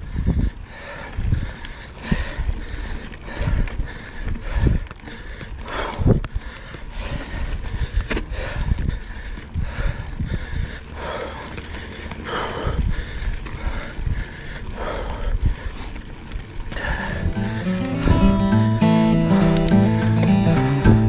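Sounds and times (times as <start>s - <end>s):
wind rumble on microphone: 0.0s - 18.4s
bike tyres on dirt: 0.0s - 18.8s.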